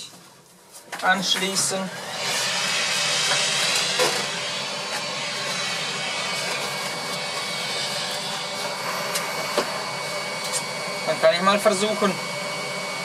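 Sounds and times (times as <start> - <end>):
vacuum cleaner running: 1.2 - 13.0.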